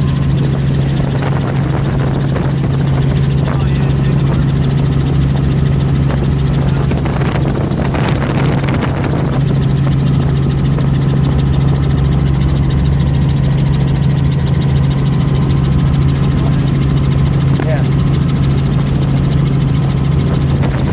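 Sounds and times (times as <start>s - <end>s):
helicopter engine drone: 0.0s - 20.9s
helicopter rotor chop: 0.0s - 20.9s.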